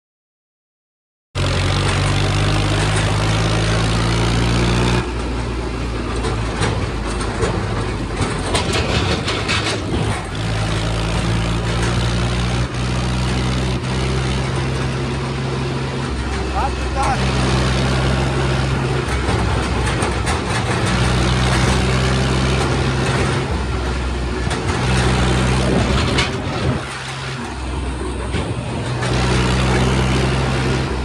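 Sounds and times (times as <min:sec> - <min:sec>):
tractor diesel engine running: 0:01.4 - 0:31.0.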